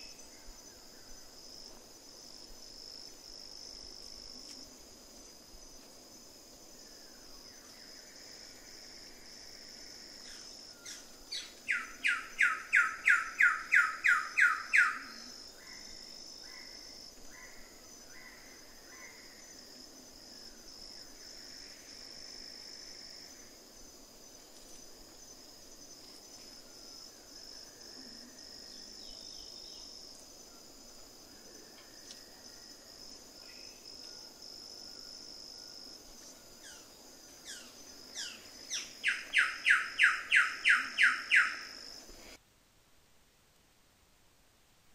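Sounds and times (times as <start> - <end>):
insects droning: 0.0 - 42.4.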